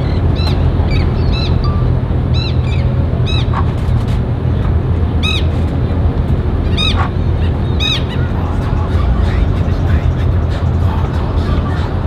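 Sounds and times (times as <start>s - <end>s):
birds calling: 0.0s - 3.8s, 5.1s - 5.6s, 6.6s - 12.0s
low rumble: 0.0s - 12.0s.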